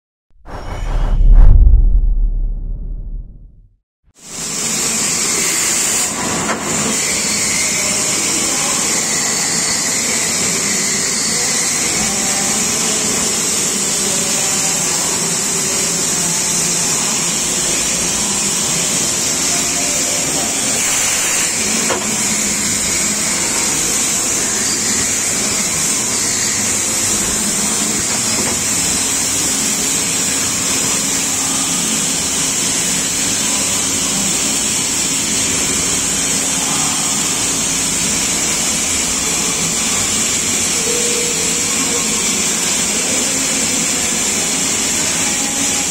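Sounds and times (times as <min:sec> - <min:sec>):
machine hiss and whir: 0:04.3 - 0:45.9.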